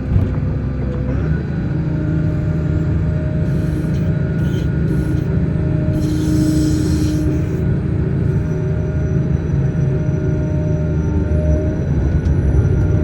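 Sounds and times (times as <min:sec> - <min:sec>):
harvester mechanical rumble and whine: 0:00.0 - 0:13.0.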